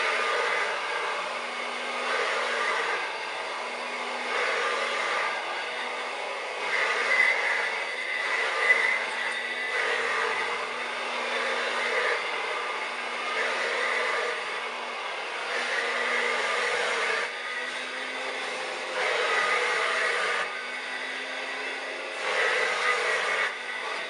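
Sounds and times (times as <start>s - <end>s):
handheld vacuum cleaner running: 0.0s - 24.0s.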